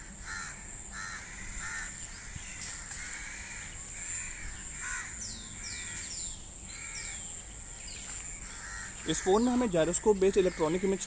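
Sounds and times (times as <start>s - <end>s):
crows cawing: 0.0s - 11.0s.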